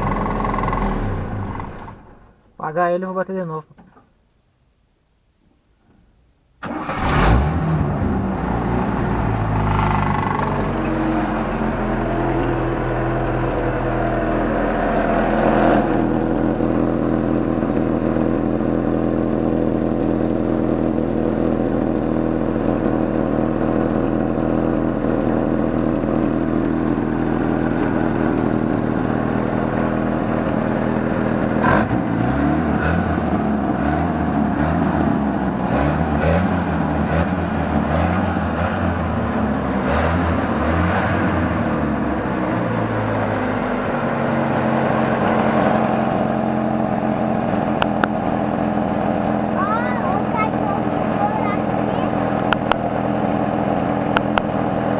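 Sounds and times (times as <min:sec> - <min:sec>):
car engine cranking and starting: 0:00.0 - 0:02.4, 0:06.6 - 0:54.9
car engine rumbling: 0:00.0 - 0:02.6, 0:06.6 - 0:54.9.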